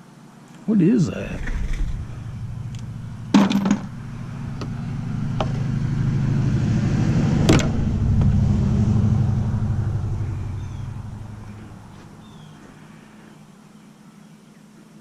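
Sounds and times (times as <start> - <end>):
vehicle engine passing by: 1.0 - 13.2.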